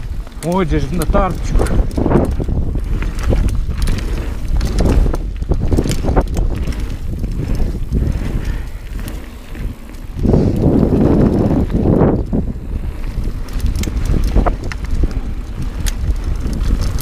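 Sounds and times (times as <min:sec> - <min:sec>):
bike knocking and rattling: 0:00.0 - 0:17.0
bike tyres rolling on dirt: 0:00.0 - 0:17.0
wind rumbling on microphone: 0:00.0 - 0:17.0.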